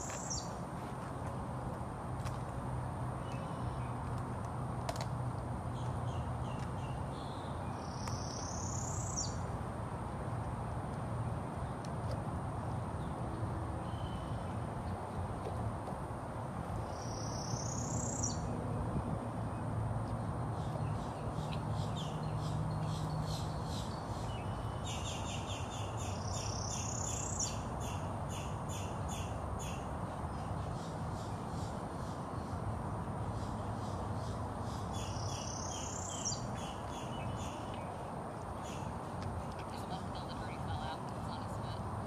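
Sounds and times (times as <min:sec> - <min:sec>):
songbird singing: 0:00.0 - 0:00.6, 0:03.0 - 0:04.5, 0:05.5 - 0:09.6, 0:12.8 - 0:15.3, 0:16.8 - 0:42.0
steady background hiss: 0:00.0 - 0:42.0.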